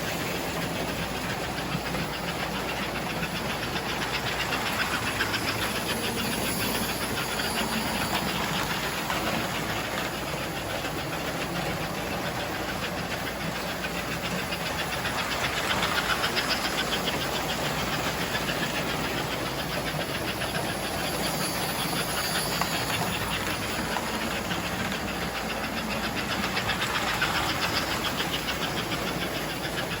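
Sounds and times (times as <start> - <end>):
model steam train rumbling: 0.0 - 30.0.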